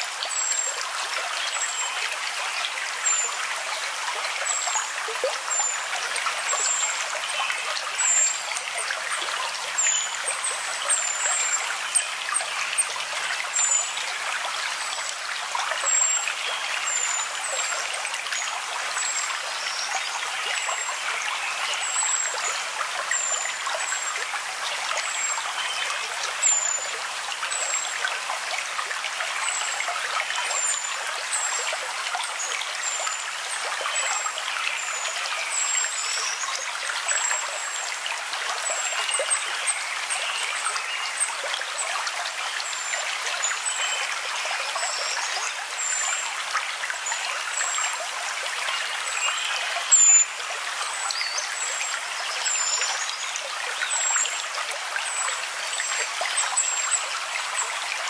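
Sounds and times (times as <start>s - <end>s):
running water trickling: 0.0s - 58.0s.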